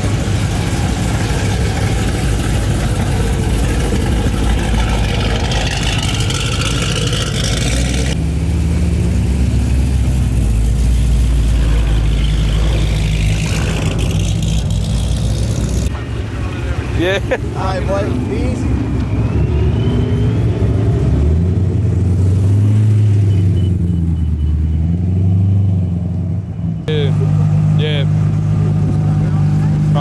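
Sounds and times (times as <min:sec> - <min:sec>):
car engine running loudly: 0:00.0 - 0:22.7, 0:26.9 - 0:30.0.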